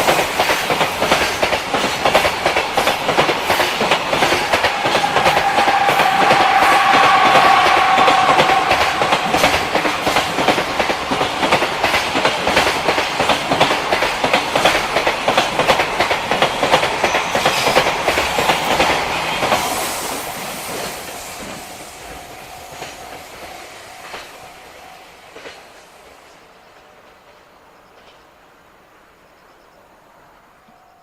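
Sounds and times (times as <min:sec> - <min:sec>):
freight train wheels clicking: 0:00.0 - 0:28.5.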